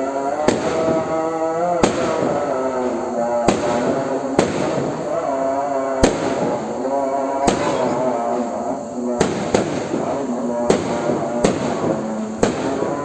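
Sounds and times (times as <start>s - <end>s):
person chanting: 0.0s - 13.0s
firecracker bangs: 0.3s - 13.0s.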